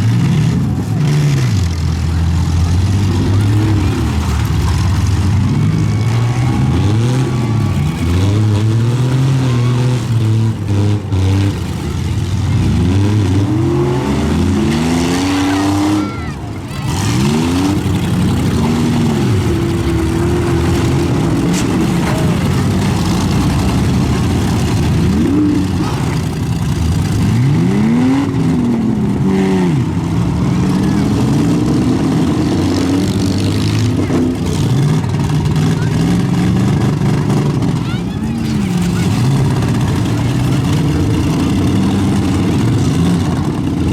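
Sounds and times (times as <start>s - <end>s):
truck engines revving: 0.0s - 43.9s.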